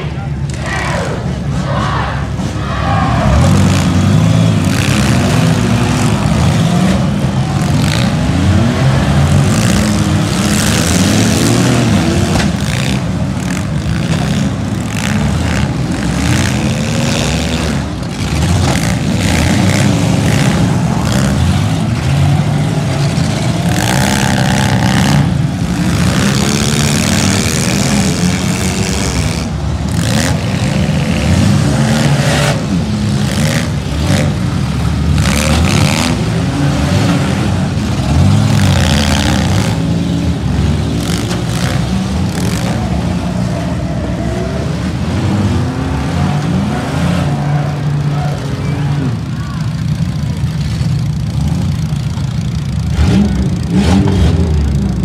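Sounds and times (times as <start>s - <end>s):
many car engines revving: 0.0s - 55.0s.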